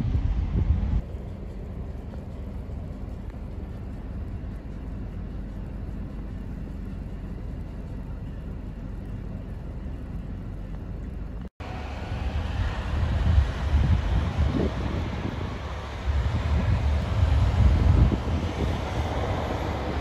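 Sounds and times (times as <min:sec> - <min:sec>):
snowplow trucks rumbling: 0:00.0 - 0:20.0
wind rumbling on microphone: 0:00.0 - 0:20.0.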